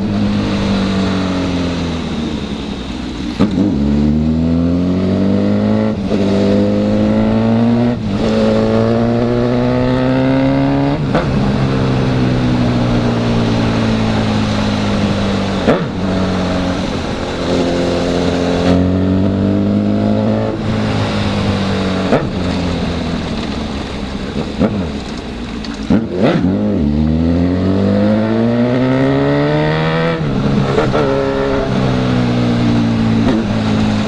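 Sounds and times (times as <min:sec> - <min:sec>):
motorcycle engine revving through gears: 0:00.0 - 0:34.0
wind and road rush: 0:00.0 - 0:34.0.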